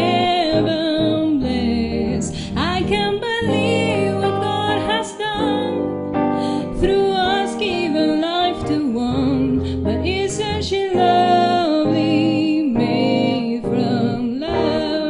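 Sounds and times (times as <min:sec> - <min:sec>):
piano: 0:00.0 - 0:15.0
woman singing a ballad: 0:00.0 - 0:15.0.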